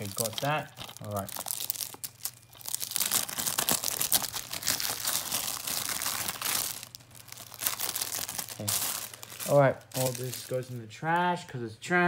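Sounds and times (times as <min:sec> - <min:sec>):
plastic wrap crinkling: 0:00.0 - 0:11.4.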